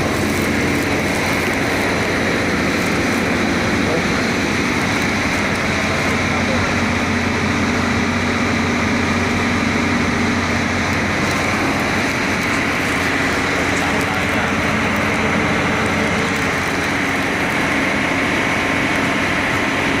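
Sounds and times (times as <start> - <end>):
diesel engine running steadily: 0.0 - 20.0.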